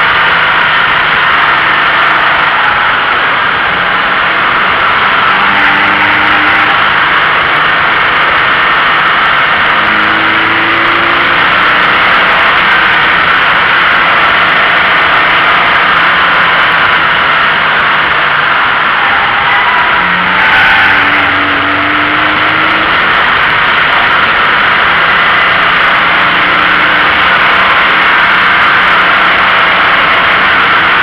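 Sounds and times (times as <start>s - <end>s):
faint car engine: 0.0s - 31.0s
wind and road noise: 0.0s - 31.0s.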